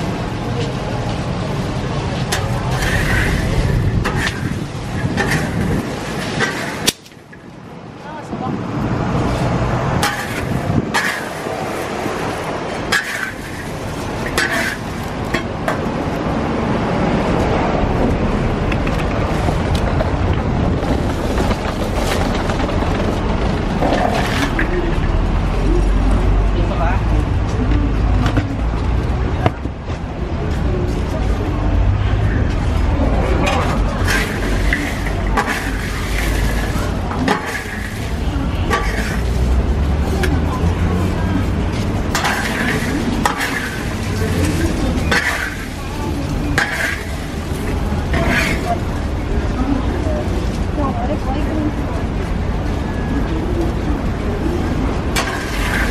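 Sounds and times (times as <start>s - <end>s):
street noise rumble: 0.0s - 55.9s.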